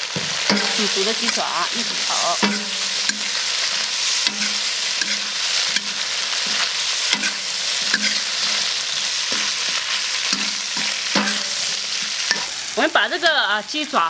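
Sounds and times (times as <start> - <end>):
metal spatula scraping a wok: 0.0 - 12.8
food sizzling in hot oil: 0.0 - 14.0.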